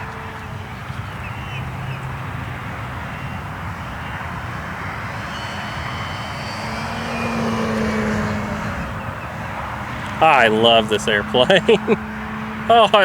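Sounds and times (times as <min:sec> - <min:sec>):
model airplane motor and propeller: 0:00.0 - 0:12.3.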